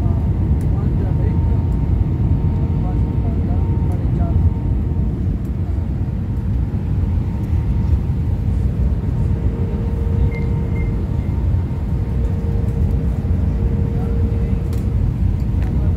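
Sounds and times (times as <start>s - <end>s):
aircraft engine and airflow rumble: 0.0s - 15.9s
steady cabin hum: 0.0s - 15.9s.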